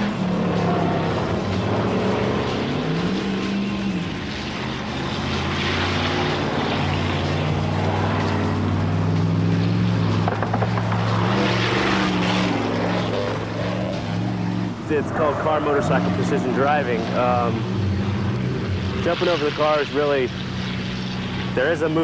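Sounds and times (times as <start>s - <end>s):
car and motorcycle engines droning: 0.0s - 22.0s.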